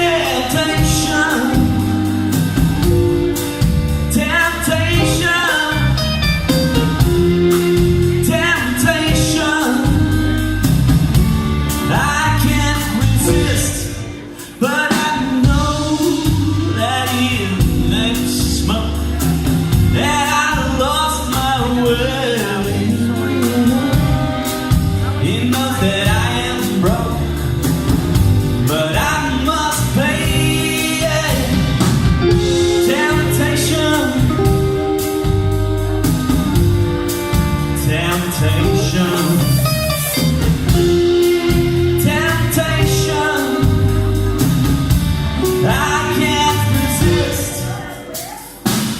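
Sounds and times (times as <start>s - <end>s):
bass line: 0.0s - 48.9s
drums: 0.0s - 48.9s
lead singer: 0.0s - 48.9s
live band playing: 0.0s - 48.9s.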